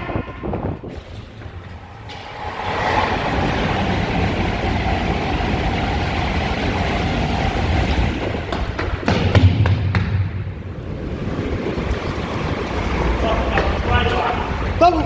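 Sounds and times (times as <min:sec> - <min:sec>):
train passing with rail noise: 0:00.0 - 0:15.0.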